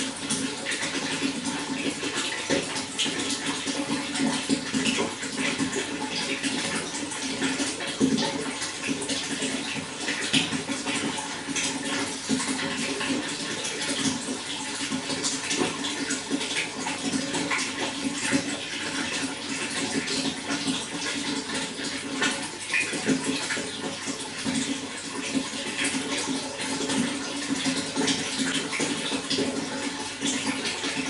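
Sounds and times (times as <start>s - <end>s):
running water flowing: 0.0s - 31.0s.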